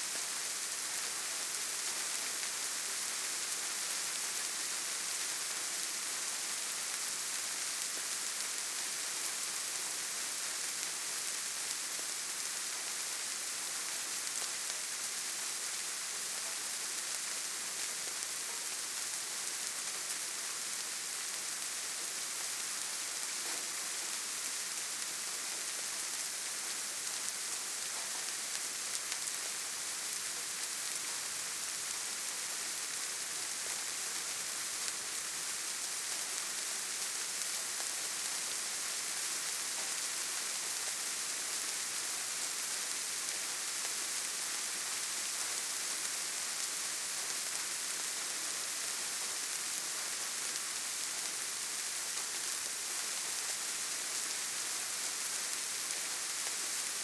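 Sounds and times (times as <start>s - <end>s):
steady rain in a forest: 0.0s - 57.0s.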